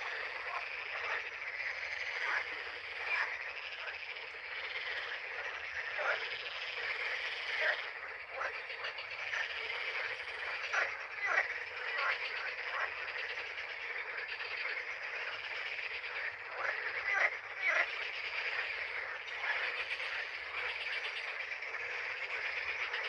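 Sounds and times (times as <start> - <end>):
chorus of frogs calling: 0.0 - 23.0
loud frog croaks: 0.0 - 23.0.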